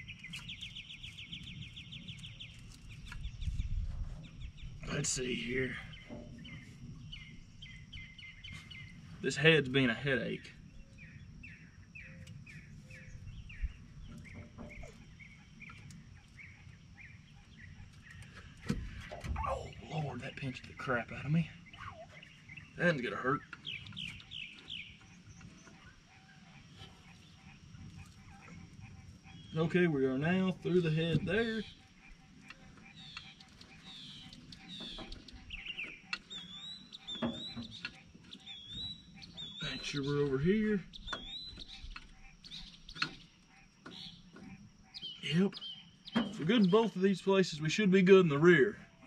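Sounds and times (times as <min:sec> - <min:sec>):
small bird chirping: 0:00.0 - 0:47.8.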